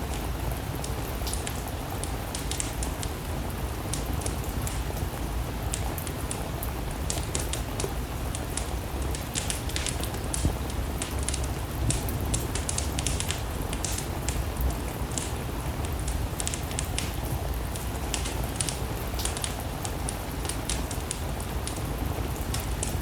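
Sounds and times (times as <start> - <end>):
steady rain: 0.0 - 23.0
wood fire crackling: 0.0 - 23.0.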